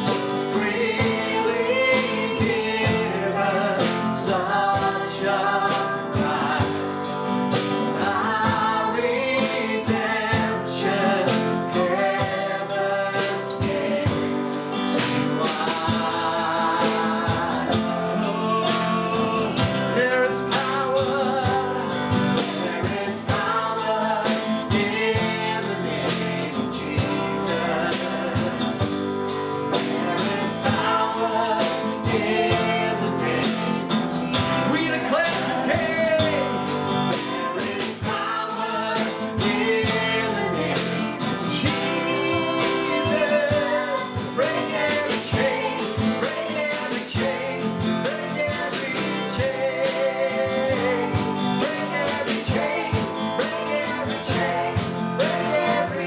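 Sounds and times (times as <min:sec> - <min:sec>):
guitar and band with beat: 0:00.0 - 0:56.0
worship song singing: 0:00.0 - 0:56.0.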